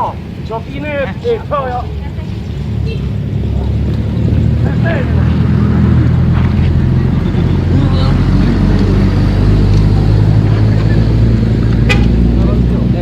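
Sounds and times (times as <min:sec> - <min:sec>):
engine running steadily: 0:00.0 - 0:13.0
faint voices: 0:00.0 - 0:13.0.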